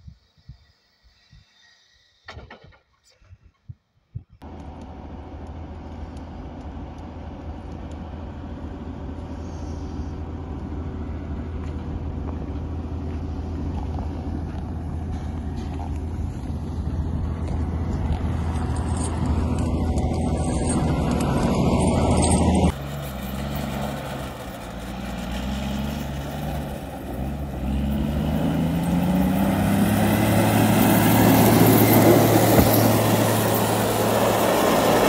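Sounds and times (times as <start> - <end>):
motor grader engine: 4.4 - 35.0
wheel loader diesel engine: 4.4 - 35.0.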